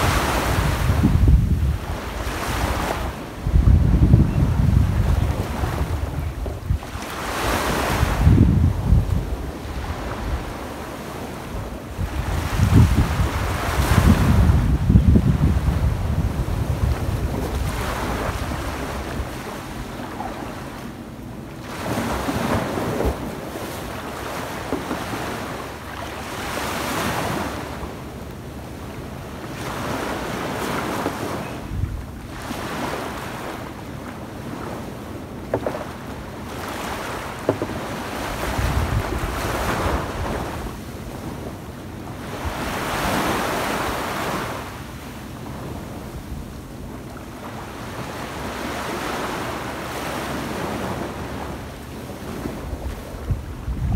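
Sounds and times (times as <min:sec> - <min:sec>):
small waves breaking on beach: 0:00.0 - 0:21.0, 0:21.6 - 0:28.0, 0:28.8 - 0:31.6, 0:32.2 - 0:53.9.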